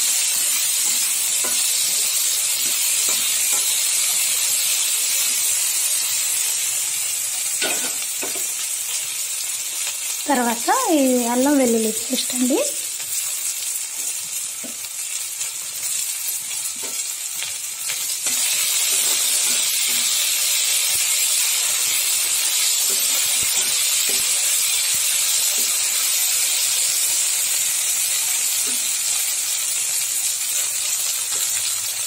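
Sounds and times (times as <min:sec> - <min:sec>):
vegetables sizzling in hot oil: 0:00.0 - 0:32.0.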